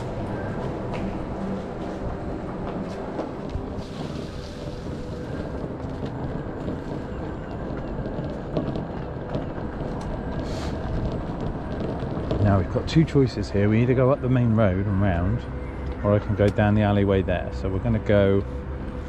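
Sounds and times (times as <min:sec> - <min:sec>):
wind buffeting microphone: 0:00.0 - 0:18.9
tyres and electric drive rumbling: 0:00.0 - 0:19.0.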